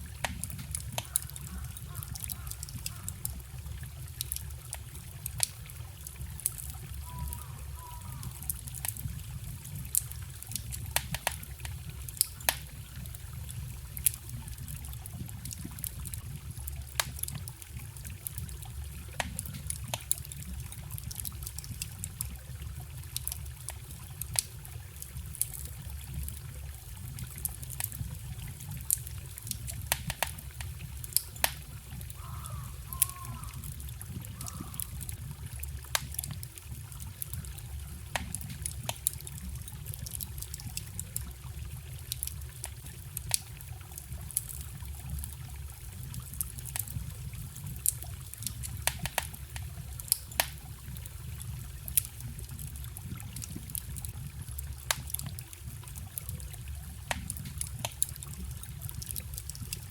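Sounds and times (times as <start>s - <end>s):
stream trickling: 0.0s - 59.9s
wood fire crackling: 0.0s - 59.9s.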